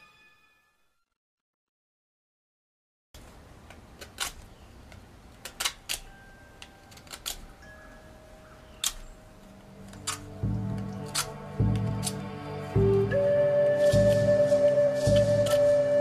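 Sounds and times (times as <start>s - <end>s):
low room noise: 3.2s - 16.0s.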